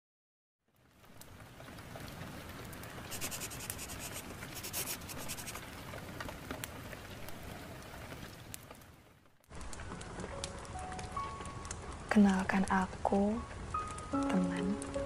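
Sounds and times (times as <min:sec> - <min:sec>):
rain hissing: 0:00.7 - 0:15.0
wood fire crackling: 0:00.7 - 0:15.0.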